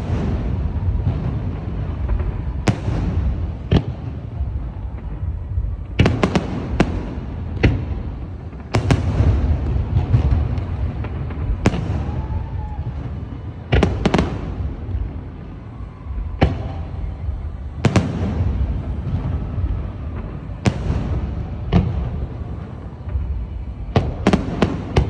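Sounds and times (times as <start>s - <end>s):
rumbling echo and crackle: 0.0s - 25.0s.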